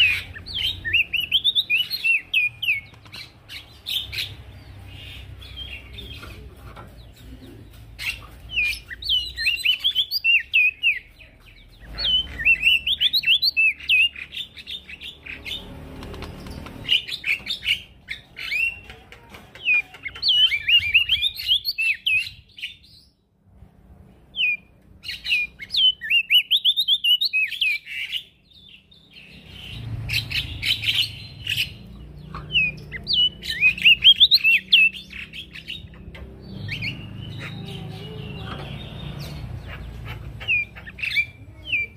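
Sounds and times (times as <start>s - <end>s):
bird twittering song: 0.0s - 23.3s, 24.3s - 41.9s.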